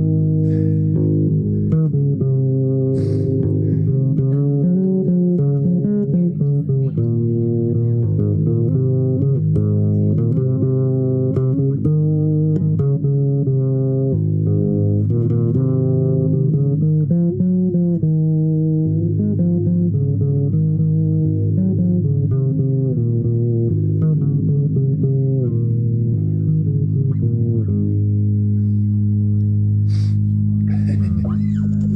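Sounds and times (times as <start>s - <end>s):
low string instrument music: 0.0s - 31.9s.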